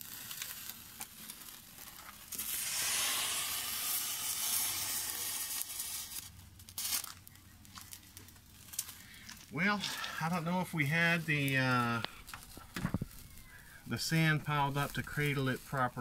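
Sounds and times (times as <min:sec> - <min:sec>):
loud hissing fizz: 0:00.0 - 0:07.2, 0:08.7 - 0:16.0
thermite burning with crackles: 0:00.0 - 0:16.0.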